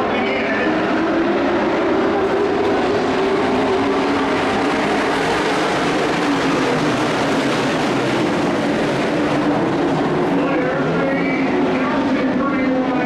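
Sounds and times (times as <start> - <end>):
racing truck engines: 0.0 - 13.0.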